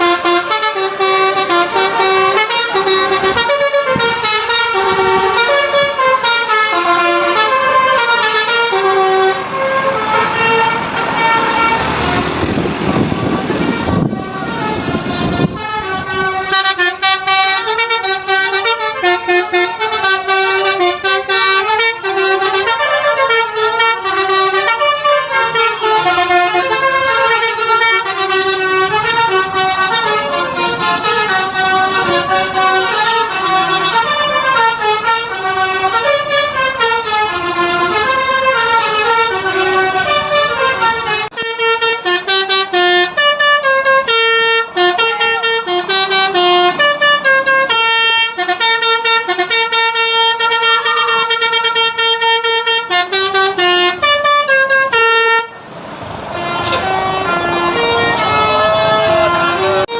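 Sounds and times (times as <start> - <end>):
bus horns playing melodies: 0.0 - 59.9.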